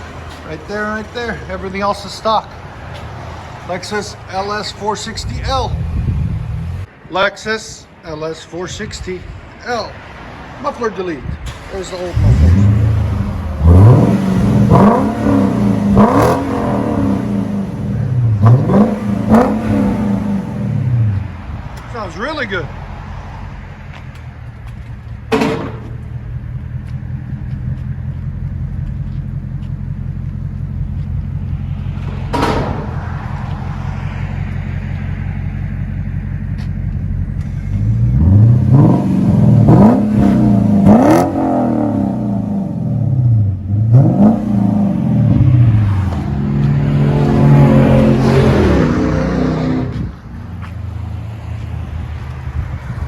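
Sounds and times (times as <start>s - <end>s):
car engine idling and revving: 0.0s - 7.0s, 11.2s - 53.0s.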